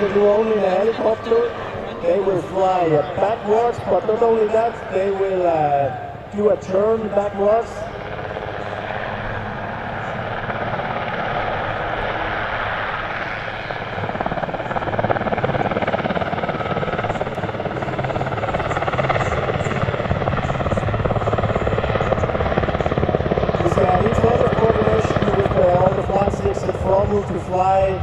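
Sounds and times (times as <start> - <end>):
helicopter rotor chopping: 0.0 - 28.0
turbines running: 0.0 - 28.0.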